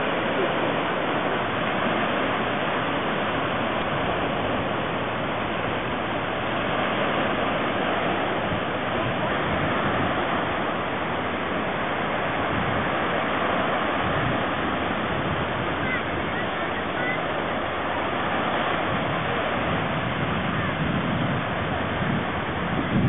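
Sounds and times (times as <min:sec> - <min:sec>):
small waves breaking: 0:00.0 - 0:23.0.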